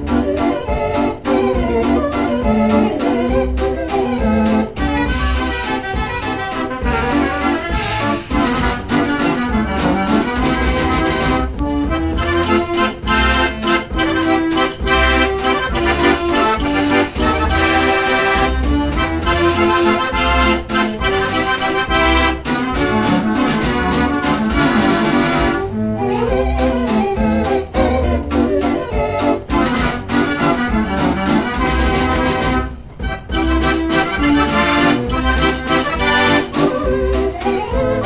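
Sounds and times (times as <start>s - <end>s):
dance organ playing a waltz: 0.0s - 38.0s.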